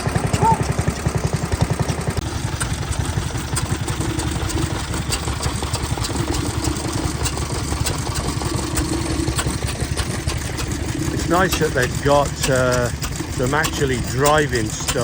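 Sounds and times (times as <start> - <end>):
engine parts ticking: 0.0 - 15.0
stationary engine running: 0.0 - 15.0.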